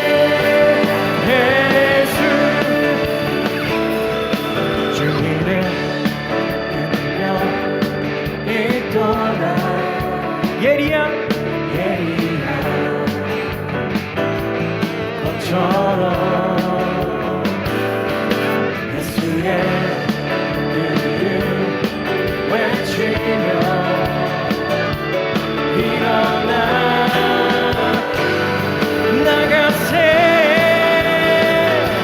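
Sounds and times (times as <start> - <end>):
person singing: 0.0 - 13.9, 15.2 - 17.8, 18.8 - 32.0
worship band playing: 0.0 - 32.0.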